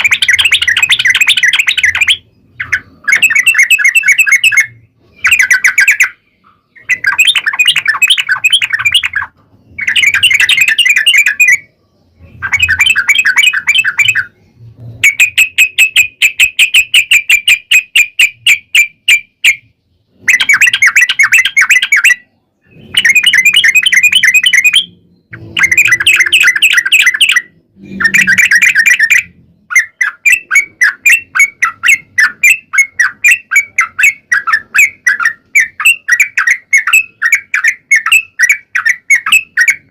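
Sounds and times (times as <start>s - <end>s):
bird song rolling notes: 0.0s - 39.9s.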